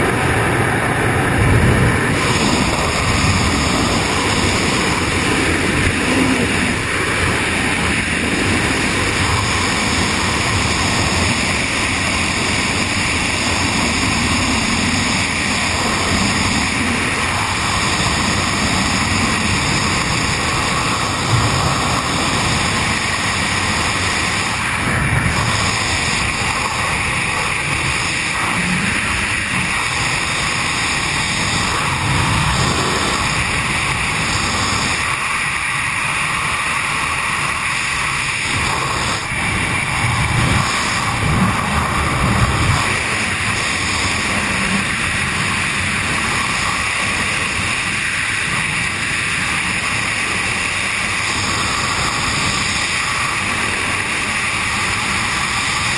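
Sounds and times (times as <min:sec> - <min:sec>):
wind roar with buffeting: 0:00.0 - 0:55.9.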